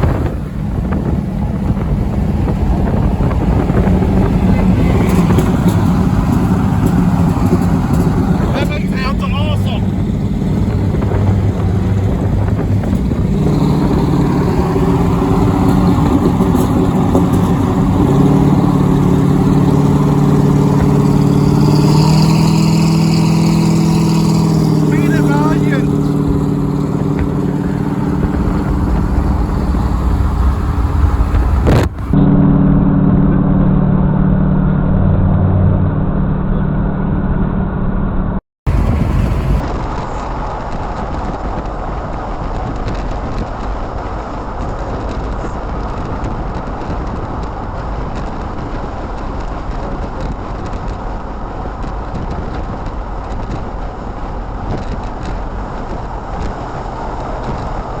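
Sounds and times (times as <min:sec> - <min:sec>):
road rumble: 0:00.0 - 0:58.0
vehicle engine drone: 0:00.0 - 0:58.0.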